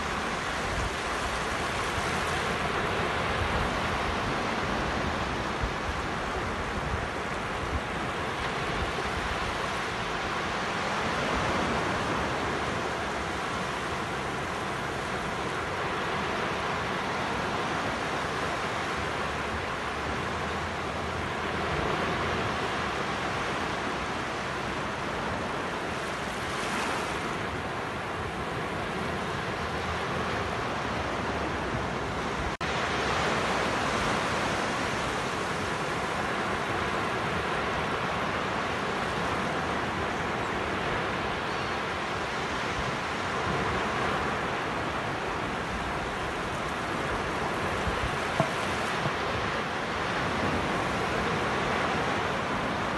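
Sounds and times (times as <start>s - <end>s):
waves breaking on beach: 0.0s - 52.9s.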